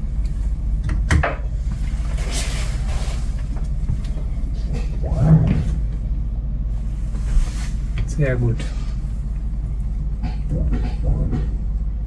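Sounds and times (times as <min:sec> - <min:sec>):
boat engine low hum: 0:00.0 - 0:12.0.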